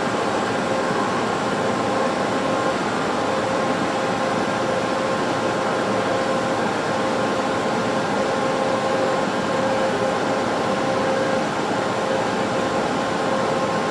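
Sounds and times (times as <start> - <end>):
air conditioning hiss: 0.0 - 13.9
steady hum: 0.0 - 13.9.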